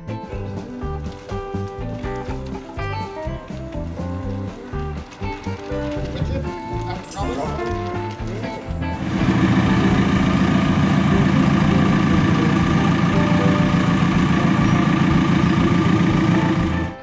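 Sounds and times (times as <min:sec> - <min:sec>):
diesel engine running: 0:00.6 - 0:17.0.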